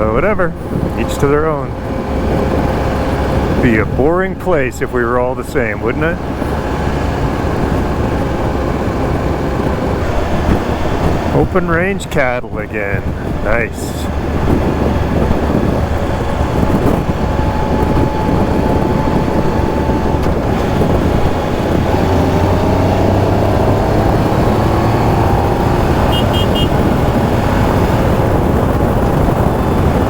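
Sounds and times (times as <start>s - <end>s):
wind rush: 0.0s - 30.0s
motorcycle engine running: 0.5s - 30.0s.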